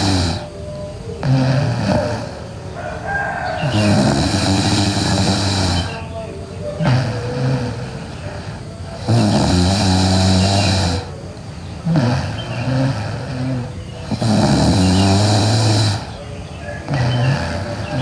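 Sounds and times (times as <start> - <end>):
woman snoring loudly: 0.0 - 0.6, 1.2 - 6.2, 6.8 - 16.3, 16.9 - 18.0.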